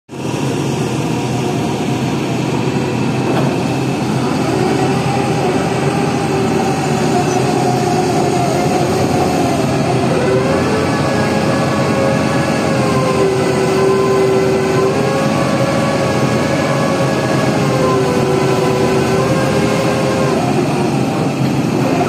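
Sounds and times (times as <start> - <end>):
construction machine engine running: 0.1 - 22.0.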